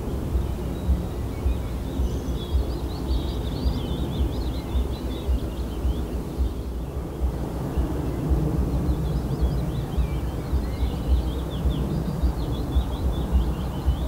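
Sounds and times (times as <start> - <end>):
songbird twittering warble: 0.0 - 14.0
wind buffeting microphone: 0.0 - 14.0.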